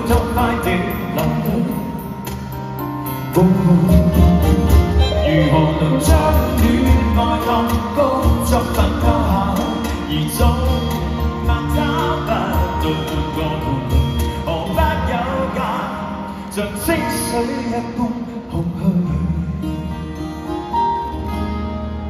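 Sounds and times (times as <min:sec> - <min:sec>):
acoustic guitar: 0:00.0 - 0:22.0
live pop band music: 0:00.0 - 0:22.0.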